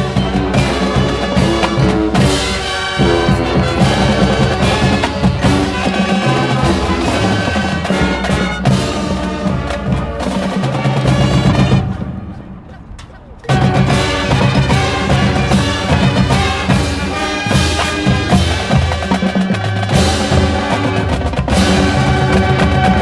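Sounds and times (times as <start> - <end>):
brass sustained chords: 0.0 - 12.7, 13.5 - 23.0
drums and percussion: 0.0 - 23.0.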